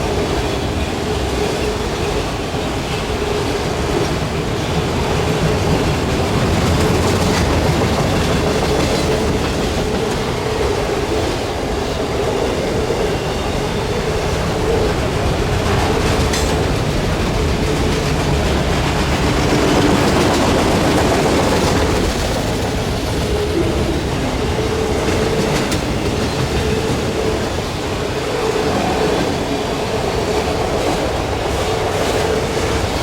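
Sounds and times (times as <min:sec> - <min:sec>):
clickety-clack of rail joints: 0:00.0 - 0:33.0
train wheels rumbling on rail: 0:00.0 - 0:33.0.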